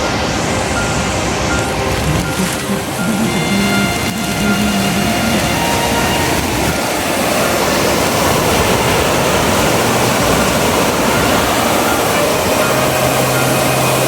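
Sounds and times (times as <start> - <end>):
moving vehicle rushing noise: 0.0 - 14.0.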